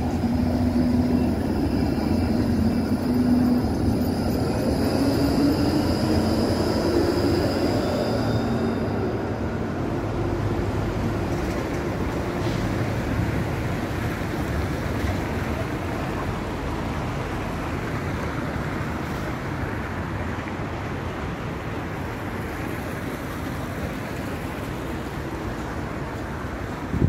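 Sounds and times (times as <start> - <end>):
street traffic rumble: 0.0 - 27.0
tram pulling away: 0.0 - 27.0.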